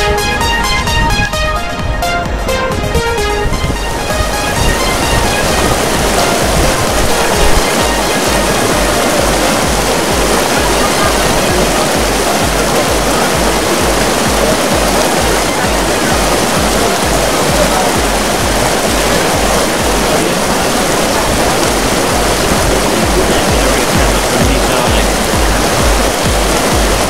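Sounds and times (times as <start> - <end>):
floodwater rushing: 0.0 - 27.0
music with bass beat: 0.0 - 27.0.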